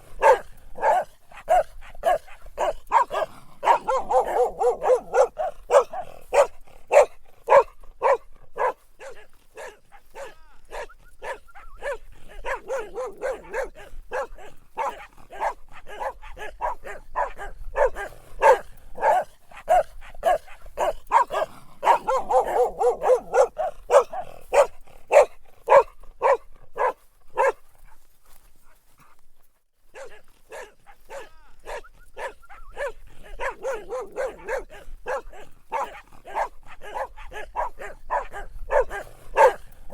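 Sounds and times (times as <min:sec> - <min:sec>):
dog barking: 0:00.0 - 0:28.0, 0:29.9 - 0:39.9.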